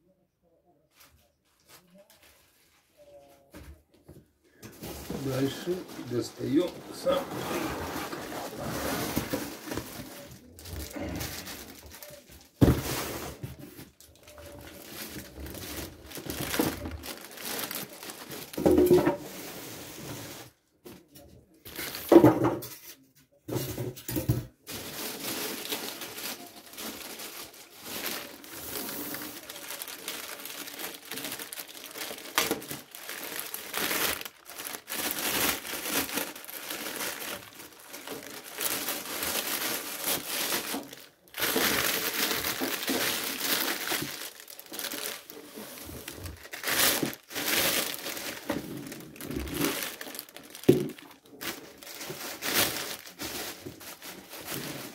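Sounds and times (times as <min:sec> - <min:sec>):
plastic bag crinkling: 0:04.7 - 0:20.5, 0:24.6 - 0:54.9.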